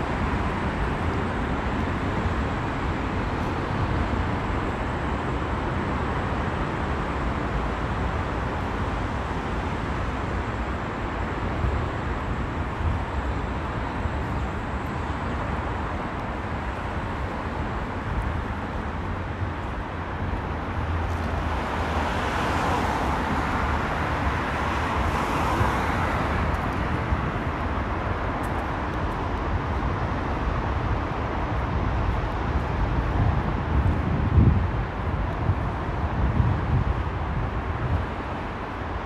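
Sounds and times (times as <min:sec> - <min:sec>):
street traffic noise: 0:00.0 - 0:39.0.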